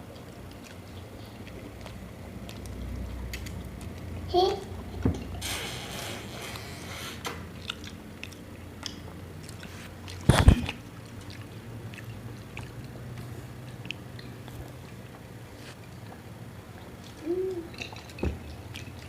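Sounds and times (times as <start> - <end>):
biting and chewing: 0.0 - 4.3, 6.5 - 19.0.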